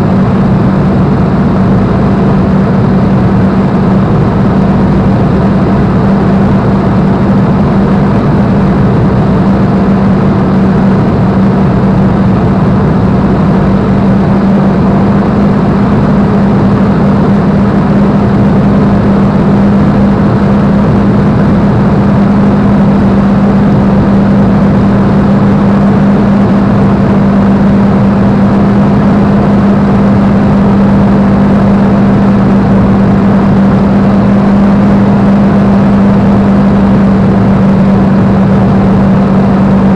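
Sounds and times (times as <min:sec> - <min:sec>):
aircraft engine droning: 0:00.0 - 0:39.9
airflow roar: 0:00.0 - 0:39.9.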